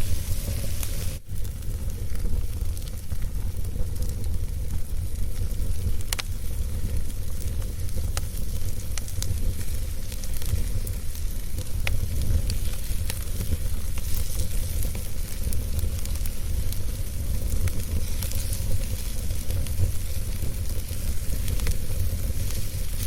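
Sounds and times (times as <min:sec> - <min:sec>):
fire burning with low rumble: 0:00.0 - 0:23.0
fire crackles and pops: 0:00.0 - 0:23.0.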